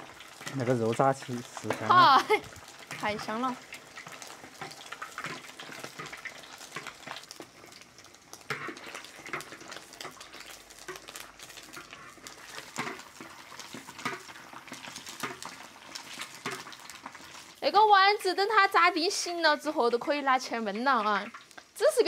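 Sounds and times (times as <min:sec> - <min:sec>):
oil sizzling and crackling: 0:00.0 - 0:22.0.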